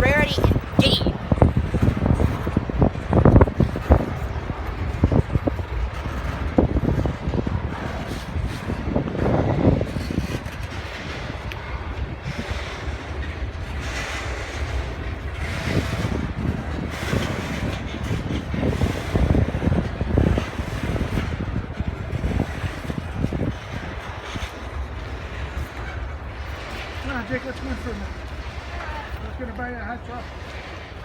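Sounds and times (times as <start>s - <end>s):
train rumbling past: 0.0s - 31.0s
wind buffeting microphone: 0.0s - 31.0s.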